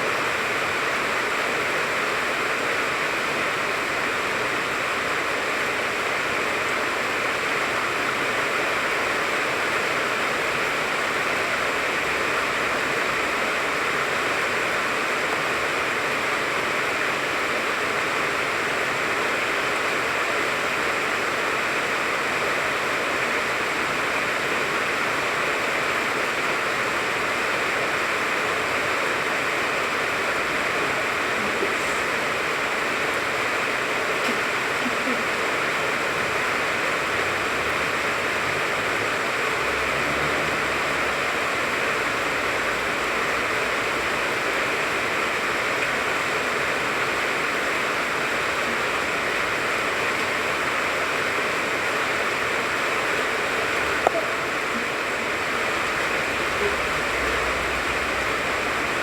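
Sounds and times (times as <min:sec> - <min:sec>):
steady rain on a tree: 0:00.0 - 0:59.0.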